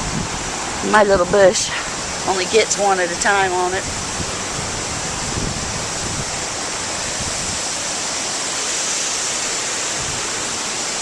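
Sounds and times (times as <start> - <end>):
strong wind on microphone: 0.0 - 8.4, 9.7 - 11.0.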